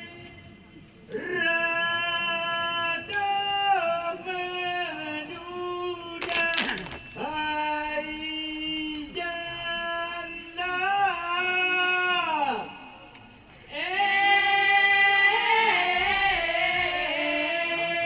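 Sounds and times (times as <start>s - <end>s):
voices singing in unison: 1.1s - 18.0s.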